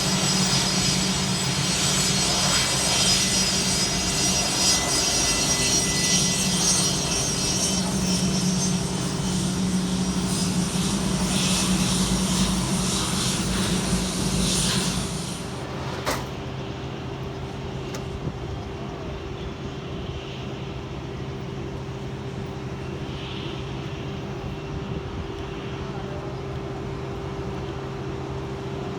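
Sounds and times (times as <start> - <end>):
airplane engines whining: 0.0 - 28.9.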